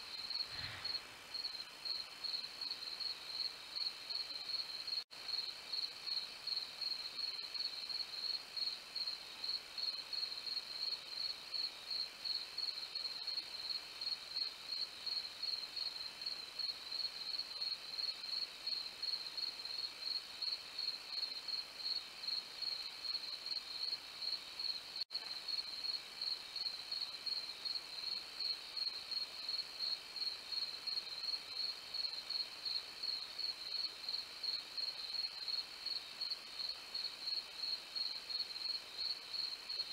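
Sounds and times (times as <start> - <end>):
faint insect trills: 0.0 - 39.9
insects chirping: 0.0 - 39.9.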